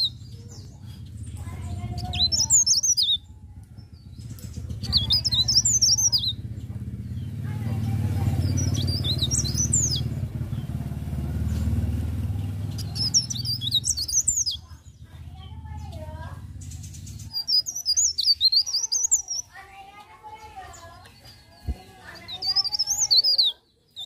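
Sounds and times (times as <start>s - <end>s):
steady low rumble: 0.0s - 19.3s
bird twittering: 0.0s - 24.0s.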